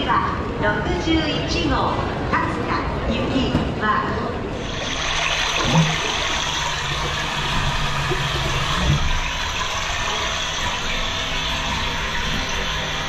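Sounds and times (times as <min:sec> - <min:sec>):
recorded flowing water: 0:00.0 - 0:13.0.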